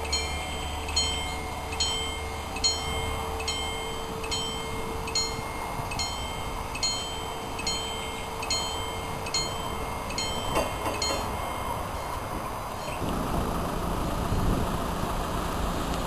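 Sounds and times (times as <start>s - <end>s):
level-crossing warning bell ringing: 0.0s - 13.1s
steady hum: 0.0s - 16.0s.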